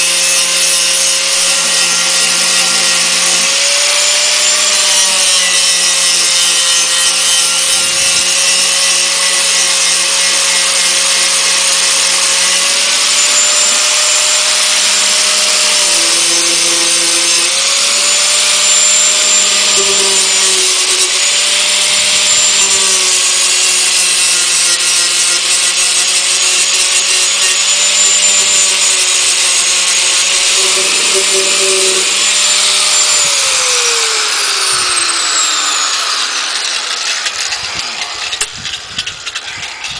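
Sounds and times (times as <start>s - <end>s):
angle grinder sanding wood: 0.0s - 39.9s
motor spinning down: 1.2s - 39.9s.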